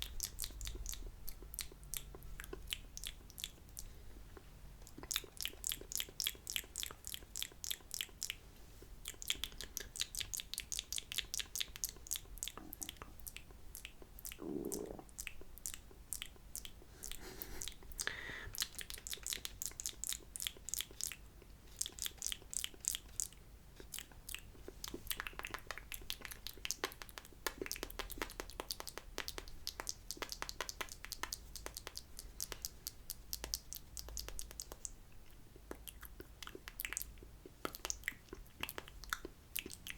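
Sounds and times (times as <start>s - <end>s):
tongue clicks: 0.0s - 8.4s, 9.0s - 39.9s
wet lip smacks: 0.0s - 8.4s, 9.0s - 39.9s.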